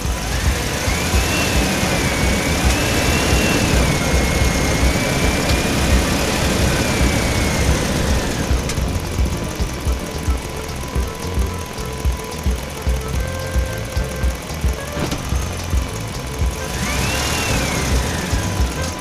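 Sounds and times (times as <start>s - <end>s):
engine running: 0.0s - 19.0s
high wavering whine: 0.0s - 19.0s.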